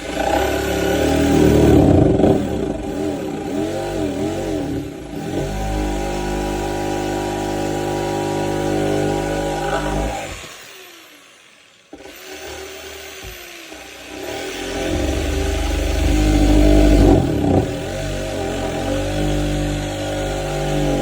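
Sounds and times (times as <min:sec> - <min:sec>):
jigsaw cutting wood: 0:00.0 - 0:21.0.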